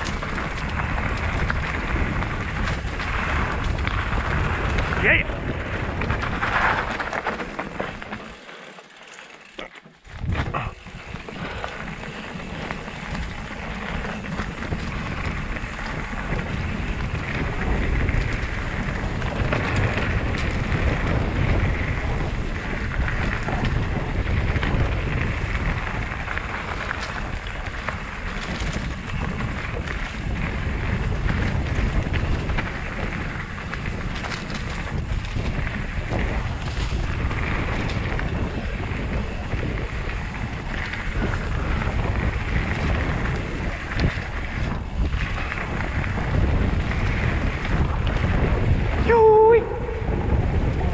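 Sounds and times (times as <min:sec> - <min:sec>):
bike rattling: 0:00.0 - 0:50.9
tyres crackling on dirt: 0:00.0 - 0:50.9
wind buffeting camera: 0:00.0 - 0:50.9.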